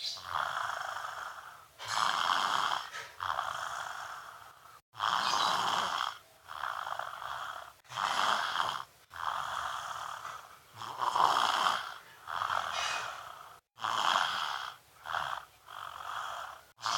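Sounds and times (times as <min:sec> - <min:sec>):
child snoring: 0:00.1 - 0:16.9.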